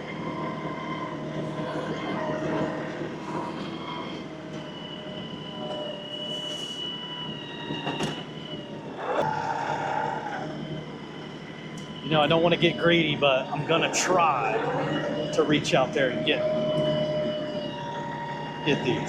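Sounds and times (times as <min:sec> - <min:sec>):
tractor engine running: 0:00.0 - 0:06.1, 0:08.2 - 0:19.0
high hydraulic whining: 0:00.0 - 0:19.0.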